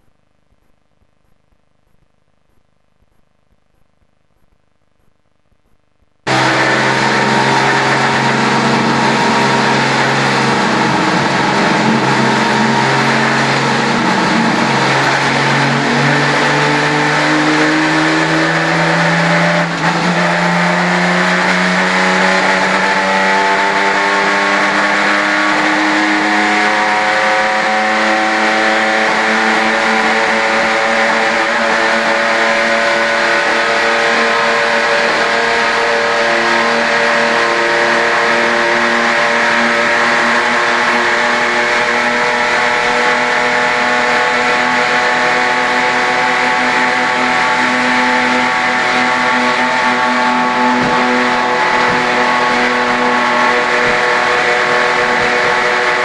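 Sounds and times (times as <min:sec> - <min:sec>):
race car engine at high revs: 0:06.2 - 0:56.0.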